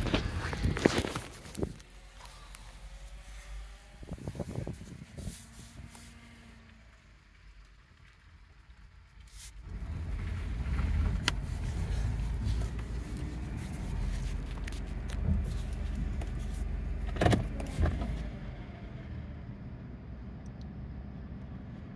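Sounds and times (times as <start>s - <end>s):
low vehicle cabin noise: 0.0s - 21.9s.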